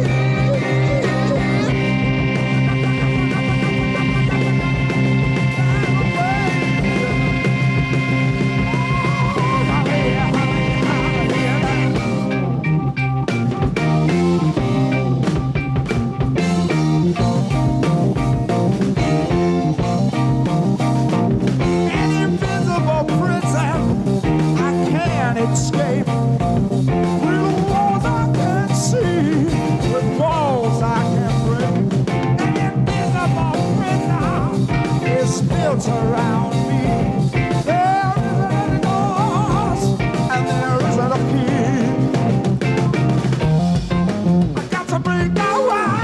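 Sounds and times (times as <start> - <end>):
bass line: 0.0 - 46.0
drums: 0.0 - 46.0
lead guitar bending notes: 0.0 - 46.0.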